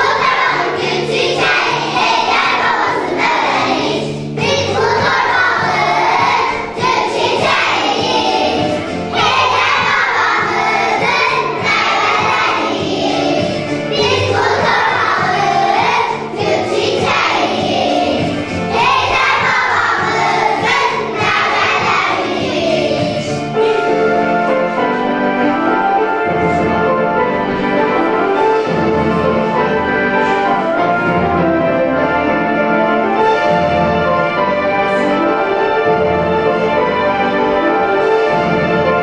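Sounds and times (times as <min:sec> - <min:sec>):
children's choir singing: 0:00.0 - 0:39.0
recorded instrumental accompaniment: 0:00.0 - 0:39.0.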